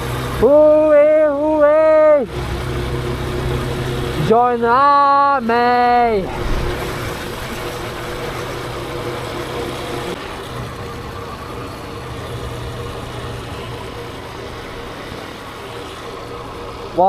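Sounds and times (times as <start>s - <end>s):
faint steady whine: 0.0s - 17.0s
motorbike low hum: 0.0s - 17.0s
wind and road noise: 1.6s - 17.0s.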